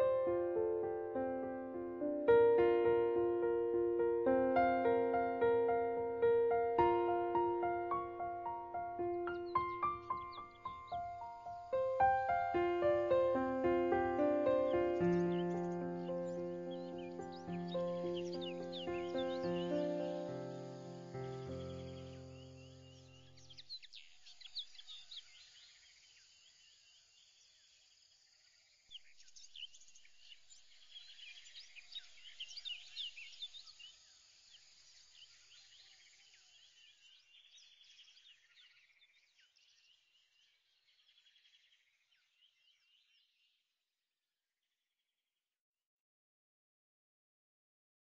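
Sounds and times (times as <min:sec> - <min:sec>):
small birds chirping: 0:00.0 - 0:43.7.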